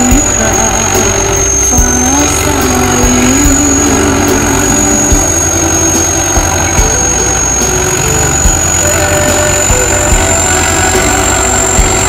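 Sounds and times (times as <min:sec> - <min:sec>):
combine harvester engine droning: 0:00.0 - 0:12.0
constant high whine: 0:00.0 - 0:12.0.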